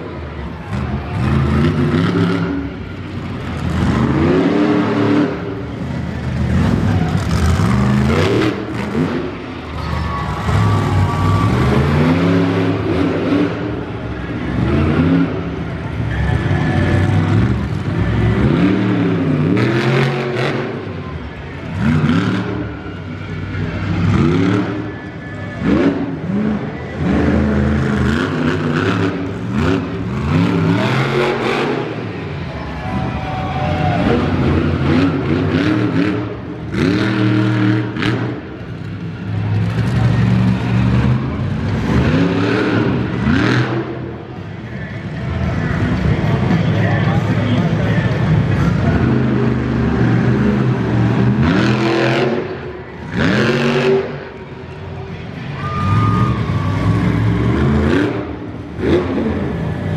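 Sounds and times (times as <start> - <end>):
monster truck engine revving: 0.0 - 59.9.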